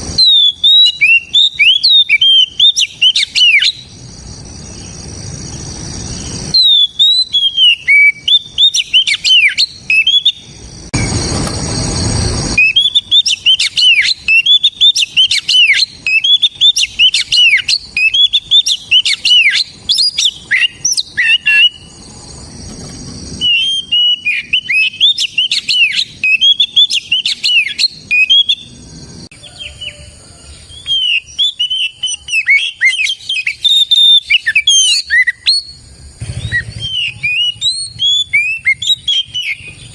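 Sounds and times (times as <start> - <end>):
bird singing whistled notes: 0.0 - 22.6, 23.3 - 39.9.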